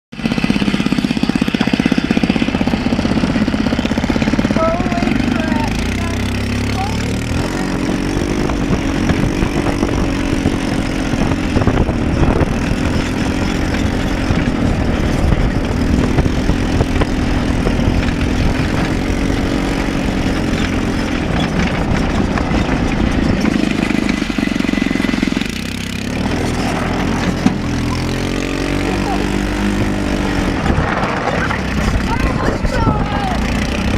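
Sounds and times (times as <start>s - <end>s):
go-kart engine revving: 0.1s - 33.9s.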